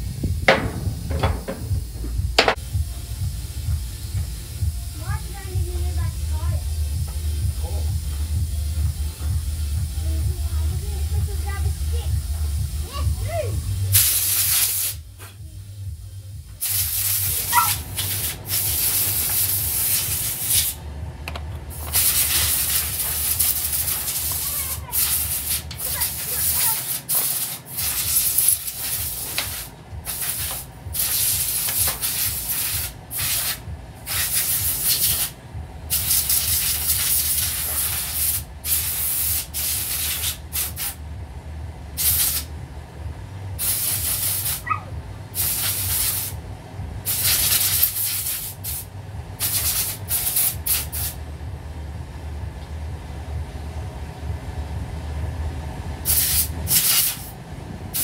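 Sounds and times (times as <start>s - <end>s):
hissing spray bursts: 0.0s - 10.2s, 11.0s - 20.8s, 21.7s - 41.0s, 42.0s - 42.5s, 43.6s - 44.6s, 45.3s - 46.4s, 47.0s - 51.2s, 56.0s - 58.0s
steady low hum: 0.0s - 58.0s.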